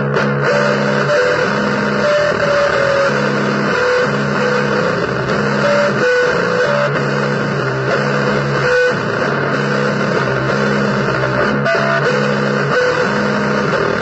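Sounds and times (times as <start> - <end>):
blues guitar playing: 0.0 - 14.0.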